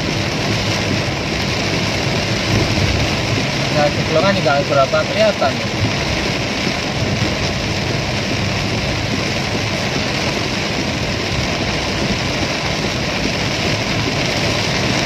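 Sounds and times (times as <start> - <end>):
car engine and road noise: 0.0 - 15.0
heavy rain on car roof: 0.0 - 15.0.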